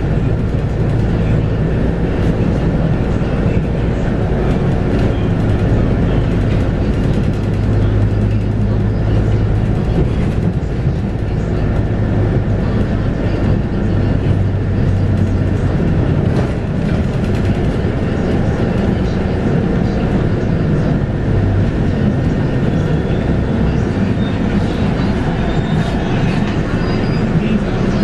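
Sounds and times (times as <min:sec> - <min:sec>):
bus diesel engine droning: 0:00.0 - 0:28.0.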